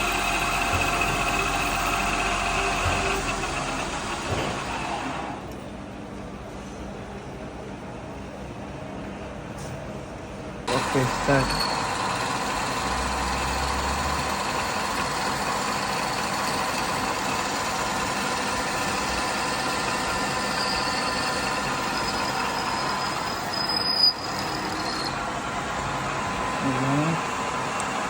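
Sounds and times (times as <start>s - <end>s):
machine tool whining: 0.0s - 5.4s, 10.7s - 28.0s.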